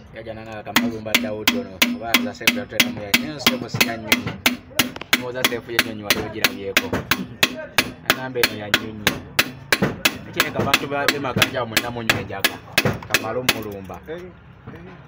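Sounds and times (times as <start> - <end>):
hammer tapping on piston: 0.7 - 13.8.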